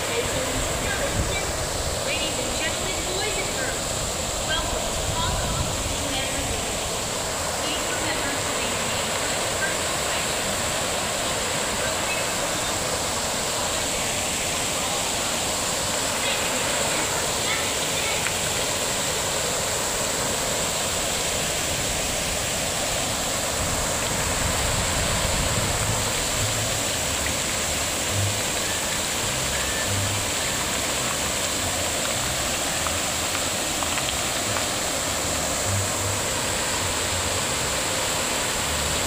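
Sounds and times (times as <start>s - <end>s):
fountain water splashing: 0.0s - 39.0s.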